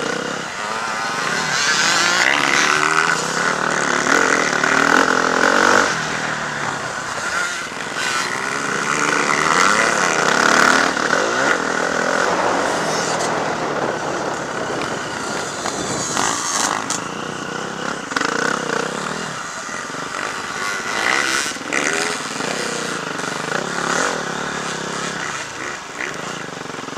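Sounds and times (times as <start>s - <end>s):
motocross bikes revving: 0.0s - 26.9s.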